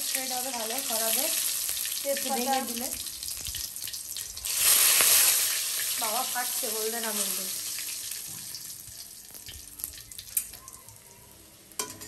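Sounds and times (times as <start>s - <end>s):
spices sizzling in hot oil: 0.0s - 10.8s.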